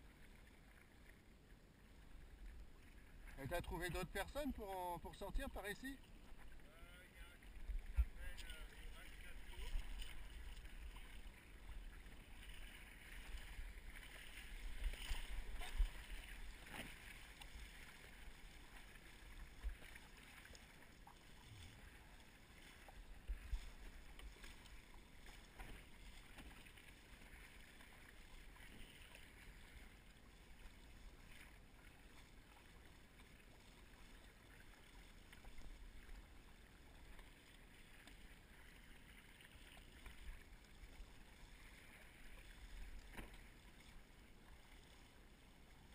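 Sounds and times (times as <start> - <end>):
board cutting through water: 0.0 - 45.9.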